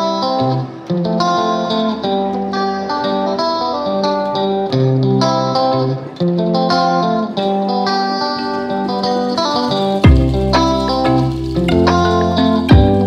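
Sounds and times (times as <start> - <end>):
plucked strings music: 0.0 - 13.0.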